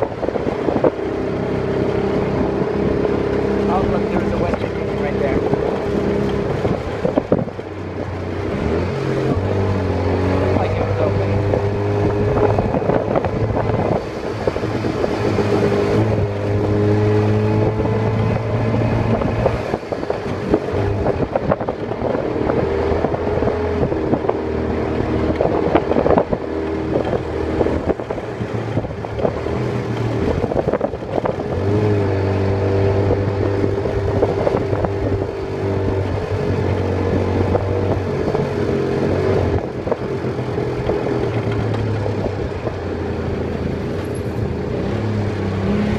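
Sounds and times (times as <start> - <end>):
wind and road noise: 0.0 - 45.9.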